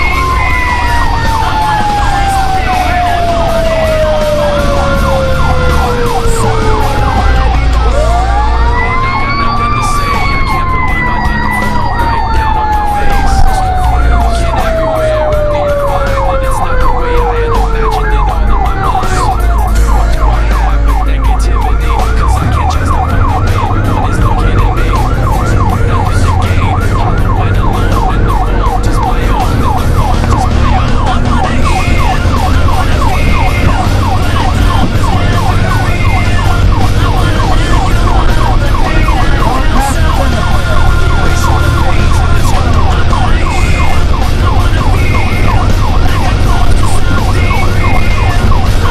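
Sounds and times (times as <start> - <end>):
electronic siren yelping: 0.0 - 48.9
engine rumble: 0.0 - 48.9.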